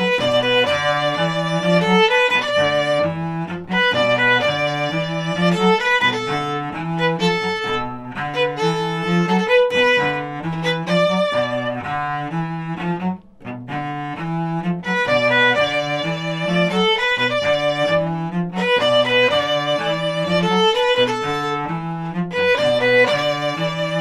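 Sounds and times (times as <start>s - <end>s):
cello bass line: 0.0s - 24.0s
violin melody: 0.0s - 24.0s.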